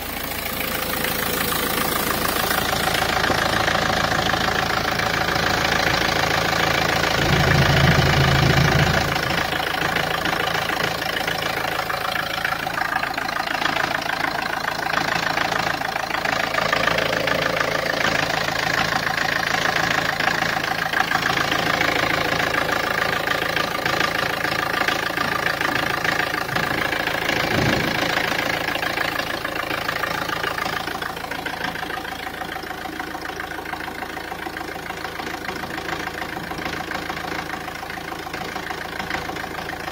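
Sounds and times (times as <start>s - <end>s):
diesel engine idling: 0.0s - 39.9s
low engine rumble: 0.0s - 39.9s.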